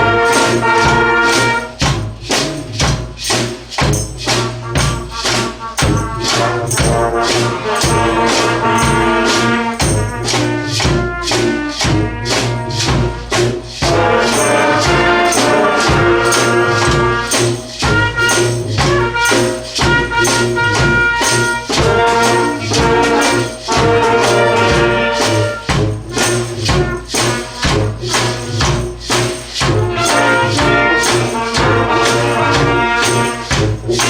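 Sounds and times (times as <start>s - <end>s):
drums and tambourine beat: 0.0s - 34.0s
horn band playing rock: 0.0s - 34.0s.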